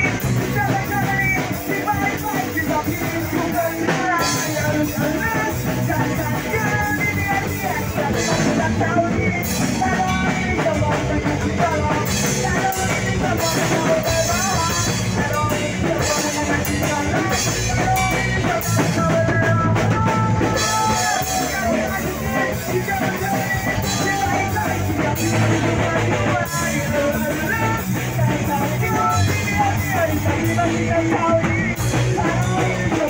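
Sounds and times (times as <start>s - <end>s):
punk rock band playing: 0.0s - 33.0s.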